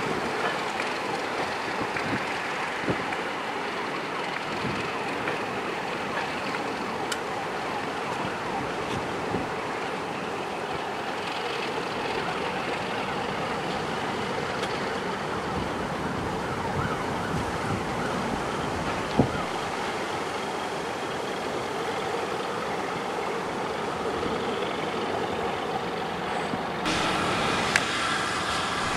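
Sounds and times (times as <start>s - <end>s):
train running: 0.0s - 28.9s.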